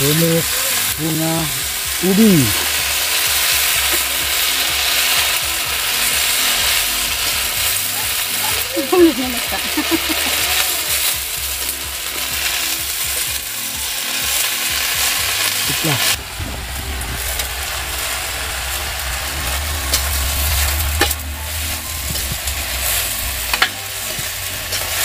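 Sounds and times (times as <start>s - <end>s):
leaves sizzling in a pan: 0.0s - 25.0s.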